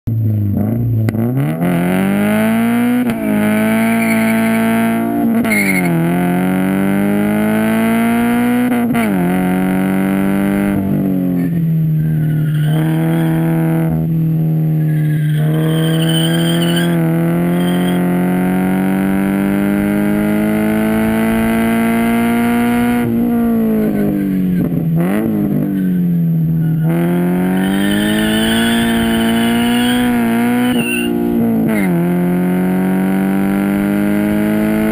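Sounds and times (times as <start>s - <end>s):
car engine revving through gears: 0.2s - 34.9s.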